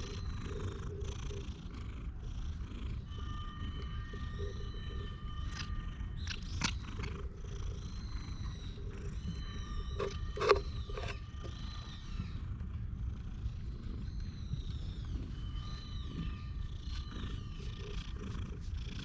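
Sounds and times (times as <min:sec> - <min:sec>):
cat purring: 0:00.0 - 0:11.5, 0:12.4 - 0:19.0.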